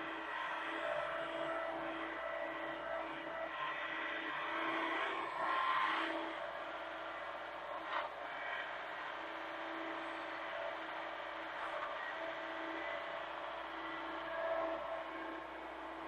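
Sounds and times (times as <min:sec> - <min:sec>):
mini excavator drone: 0:00.0 - 0:16.0.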